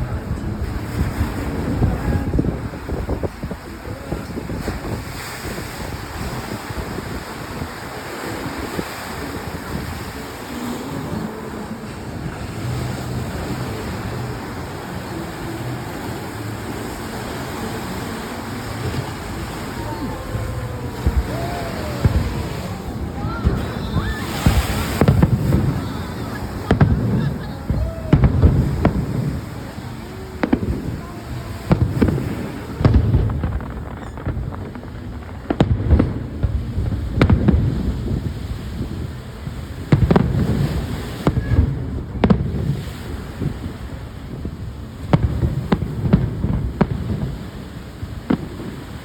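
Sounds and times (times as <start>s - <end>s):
fireworks bursting: 0.0s - 49.0s
surf: 0.0s - 49.0s
wind on microphone: 0.0s - 49.0s.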